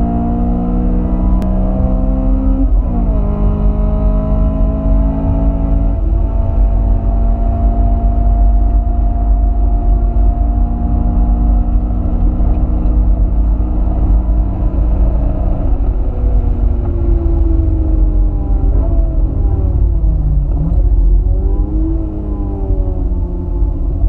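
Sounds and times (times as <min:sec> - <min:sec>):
car engine at high revs: 0:00.0 - 0:24.0
road and wind rumble: 0:00.0 - 0:24.0.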